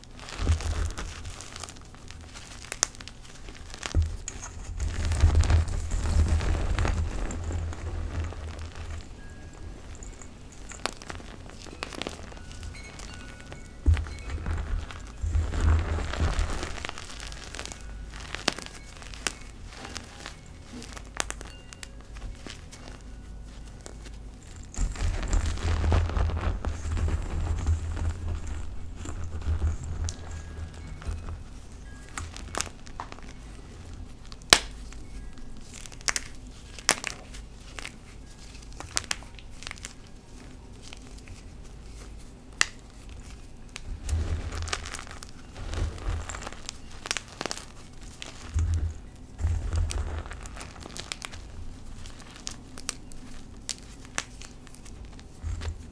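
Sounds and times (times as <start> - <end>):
hands crushing chalk powder: 0.0 - 55.9
sharp crackles: 0.0 - 55.9.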